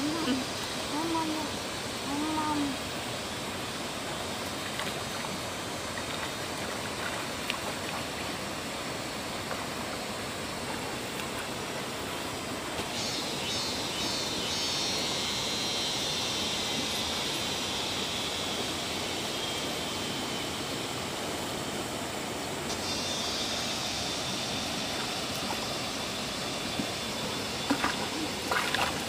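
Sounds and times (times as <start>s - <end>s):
running water: 0.0s - 29.0s.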